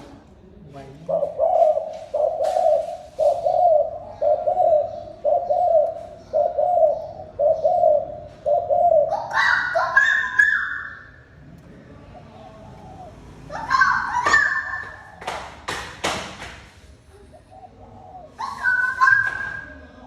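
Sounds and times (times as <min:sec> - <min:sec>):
dove cooing: 0:00.9 - 0:15.2, 0:17.0 - 0:20.0.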